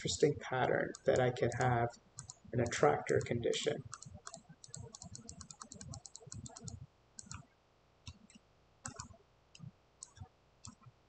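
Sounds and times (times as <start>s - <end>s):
computer mouse buttons clicking: 0.9s - 7.5s, 8.1s - 10.9s.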